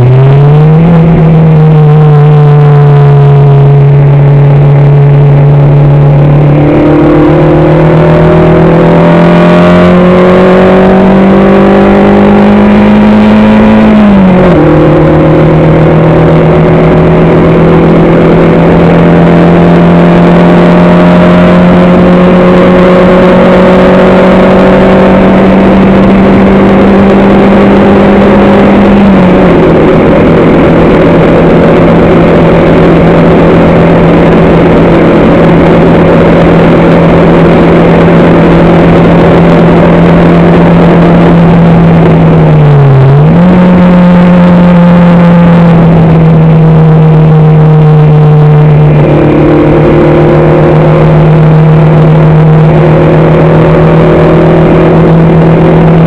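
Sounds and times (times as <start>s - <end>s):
race vehicle engine: 0.0s - 56.0s.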